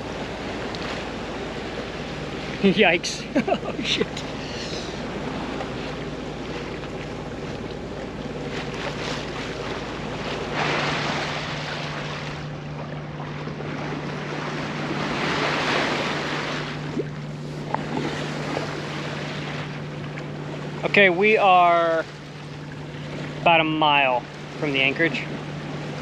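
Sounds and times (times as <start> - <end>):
steady low hum: 0.0 - 26.0
waves washing along hull: 0.0 - 26.0.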